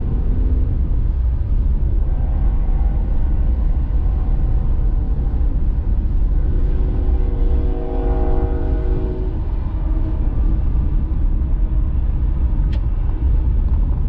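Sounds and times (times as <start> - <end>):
diesel freight train rumble: 0.0 - 14.0.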